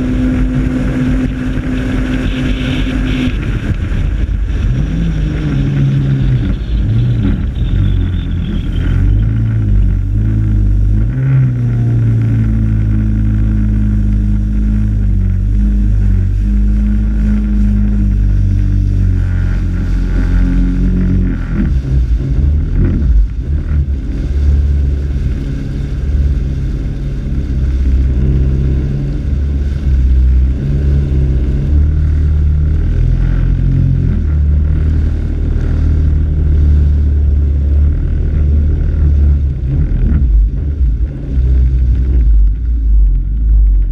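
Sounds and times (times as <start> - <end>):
jet ski engine running: 0.0 - 43.9.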